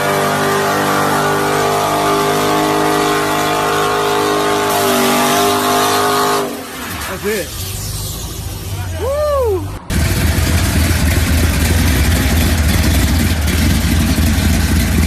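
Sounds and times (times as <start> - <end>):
car engine at high revs: 0.0 - 8.8, 9.7 - 15.0.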